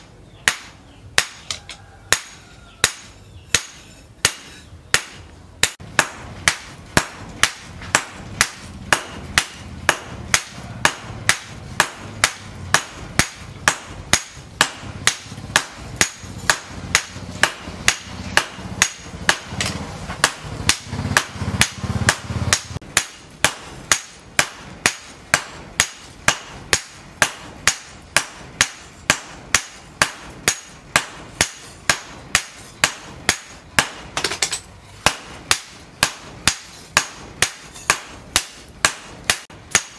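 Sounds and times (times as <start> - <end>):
hammer striking hot metal: 0.0 - 39.9.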